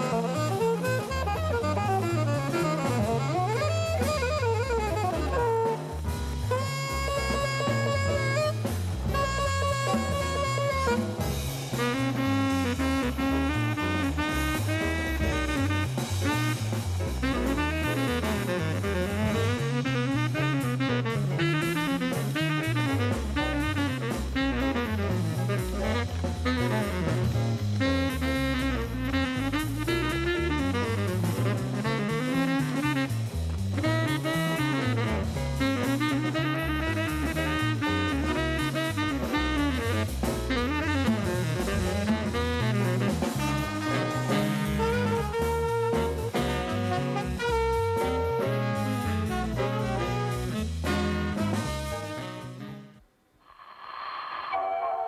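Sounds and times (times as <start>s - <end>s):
drum kit: 0.0s - 53.0s
bass line: 0.0s - 53.1s
saxophone: 0.0s - 53.1s.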